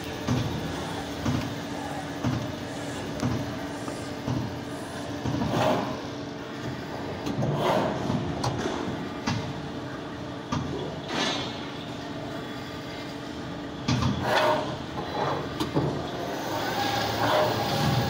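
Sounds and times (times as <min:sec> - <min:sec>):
lathe motor and hydraulic hum: 0:00.0 - 0:18.0.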